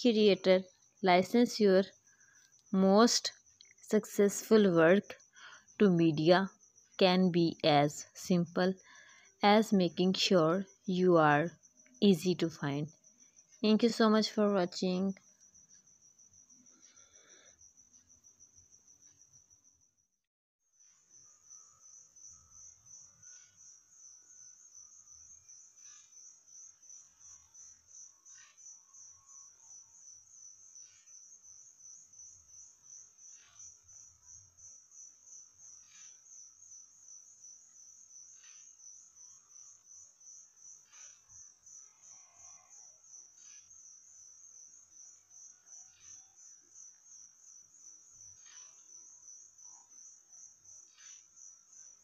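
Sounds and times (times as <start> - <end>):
crickets chirping: 0.0 - 20.0, 20.8 - 52.0.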